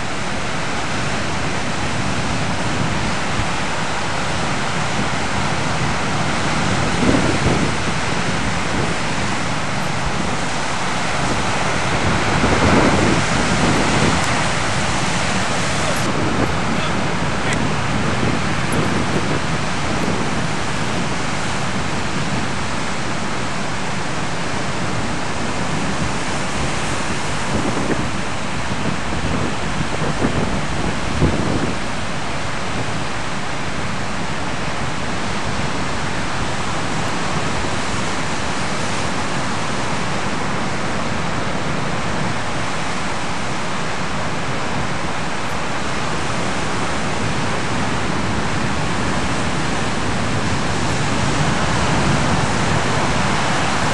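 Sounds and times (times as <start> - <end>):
surf breaking on a beach: 0.0 - 53.9.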